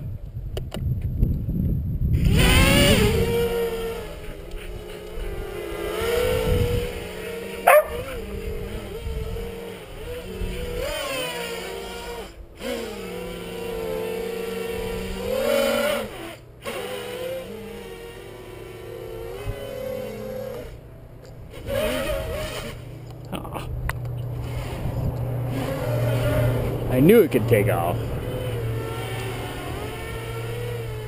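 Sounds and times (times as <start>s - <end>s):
quadcopter motors whining: 2.0s - 31.0s.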